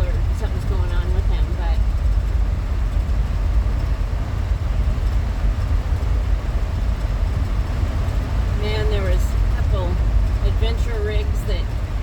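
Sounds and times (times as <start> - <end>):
minivan engine and road noise: 0.0 - 12.0.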